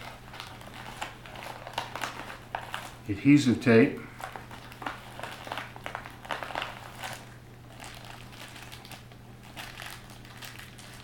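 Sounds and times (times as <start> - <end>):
plastic packet crinkling: 0.0 - 3.0, 4.1 - 11.0.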